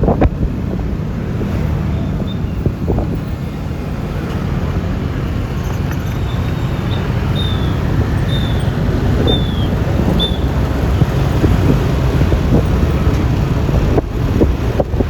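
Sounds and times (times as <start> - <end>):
scooter engine and road noise: 0.0 - 15.0
wind rushing over microphone: 0.0 - 15.0.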